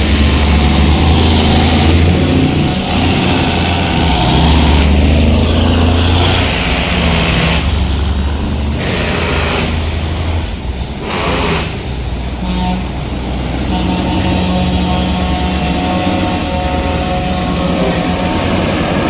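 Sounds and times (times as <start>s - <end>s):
low engine drone: 0.0s - 19.0s
traffic rushing: 0.0s - 19.0s.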